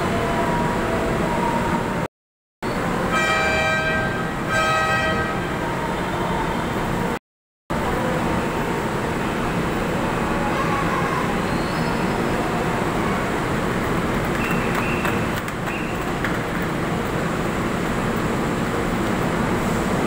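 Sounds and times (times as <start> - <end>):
station and train rumble: 0.0 - 20.0.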